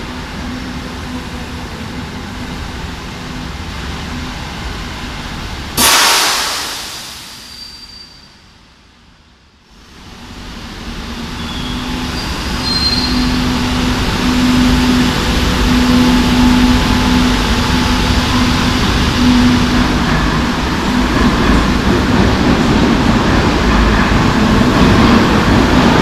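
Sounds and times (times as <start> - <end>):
metro train rumble: 0.0 - 26.0.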